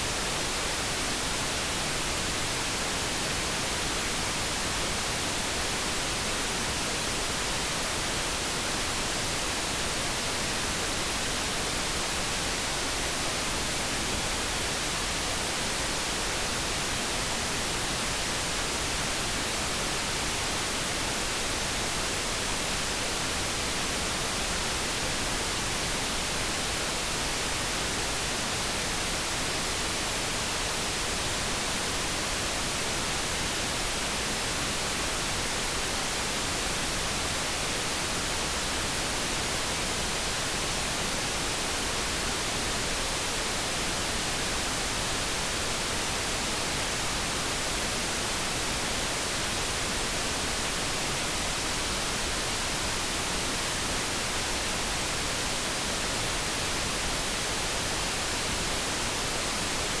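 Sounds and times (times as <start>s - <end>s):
steady hiss noise: 0.0s - 60.0s.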